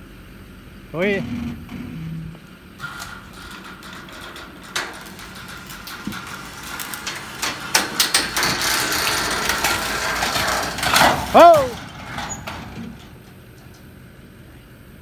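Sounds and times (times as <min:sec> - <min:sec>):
metal frame creaking and scraping: 0:01.0 - 0:14.4.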